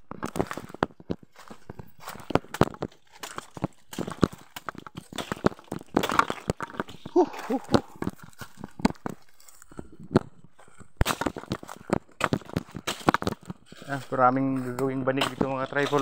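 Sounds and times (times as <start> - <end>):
footsteps crunching on dry leaves: 0.1 - 16.0.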